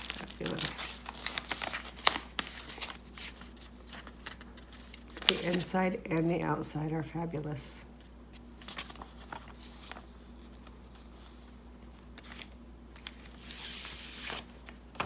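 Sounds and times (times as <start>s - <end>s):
paper sliding rustle: 0.0s - 5.7s, 8.6s - 15.0s
paper rustling: 0.0s - 5.8s, 8.6s - 15.0s.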